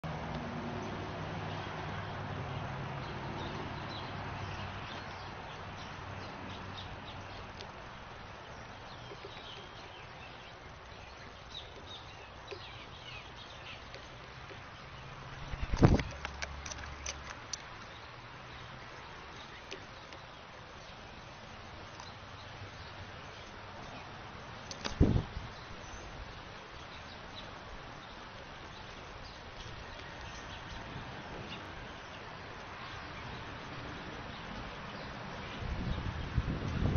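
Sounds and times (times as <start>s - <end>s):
songbirds chirping: 0.0s - 36.9s
steady outdoor hiss: 0.0s - 36.9s.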